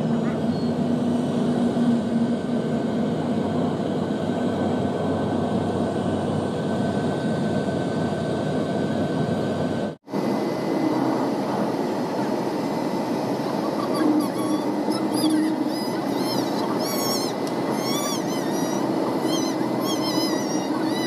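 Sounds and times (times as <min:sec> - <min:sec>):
airliner cabin propeller drone: 0:00.0 - 0:21.0
thin steady whine: 0:00.0 - 0:21.0.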